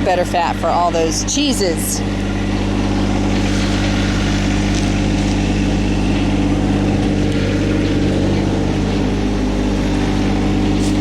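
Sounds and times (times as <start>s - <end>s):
tiller engine running: 0.0s - 11.0s.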